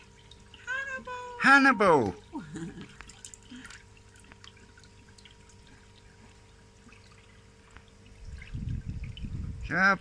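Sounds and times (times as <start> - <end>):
water dripping and trickling: 0.0 - 9.7
faint steady hum: 0.0 - 10.0.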